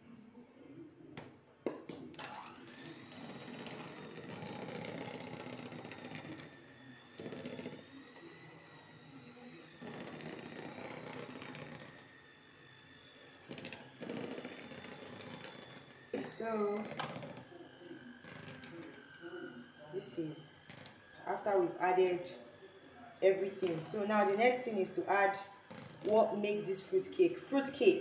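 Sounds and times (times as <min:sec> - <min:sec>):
electric hand mixer whine: 0:01.7 - 0:28.0.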